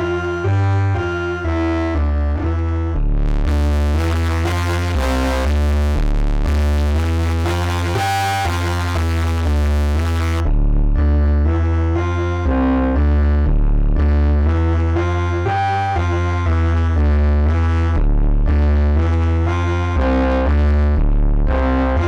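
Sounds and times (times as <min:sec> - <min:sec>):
noisy distortion layer: 0:00.0 - 0:22.0
synthesizer sequence with bass line: 0:00.0 - 0:22.0.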